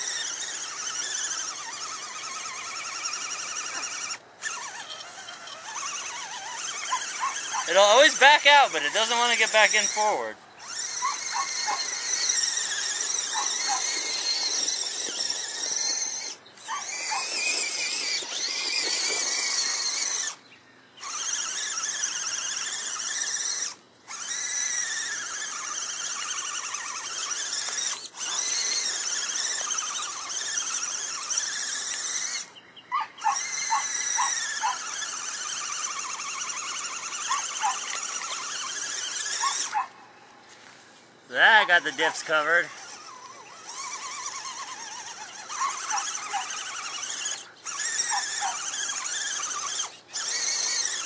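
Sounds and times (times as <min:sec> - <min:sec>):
electric motor whining: 0:00.0 - 0:51.0.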